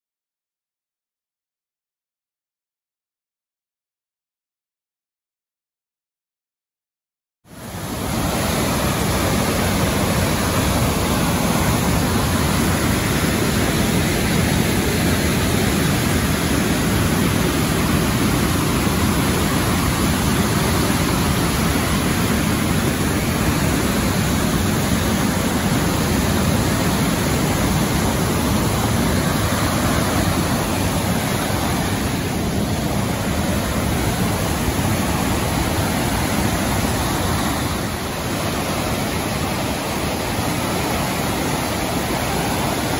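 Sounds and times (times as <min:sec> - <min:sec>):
creek rushing over rocks: 0:07.5 - 0:42.9.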